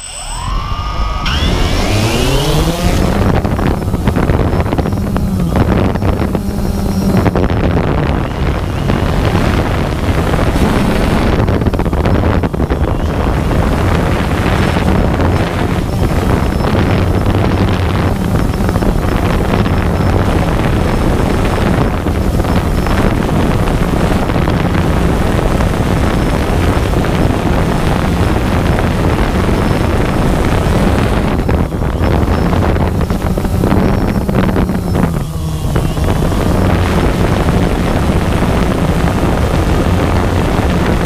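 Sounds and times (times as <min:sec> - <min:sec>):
drone motors buzzing: 0:00.0 - 0:41.0
wind noise on microphone: 0:00.0 - 0:41.0.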